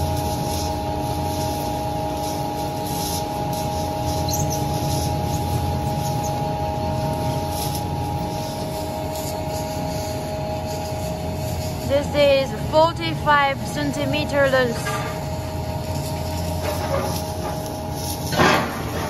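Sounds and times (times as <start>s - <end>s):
machine humming with steady tones: 0.0s - 19.0s.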